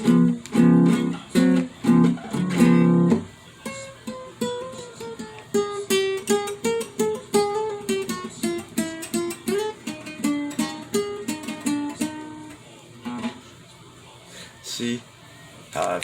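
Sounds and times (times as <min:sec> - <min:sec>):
plucked guitar melody: 0:00.0 - 0:13.4.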